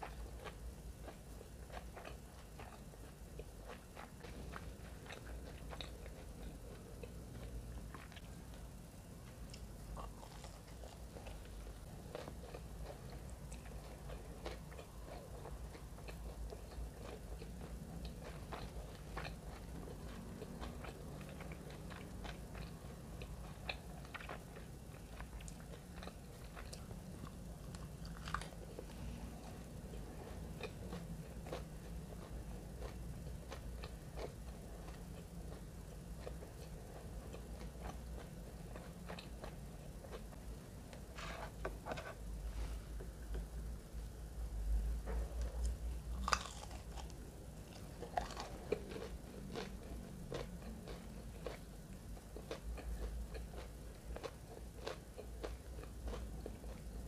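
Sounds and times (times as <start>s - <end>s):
chewing fried fish: 0.0s - 42.3s, 45.3s - 57.0s.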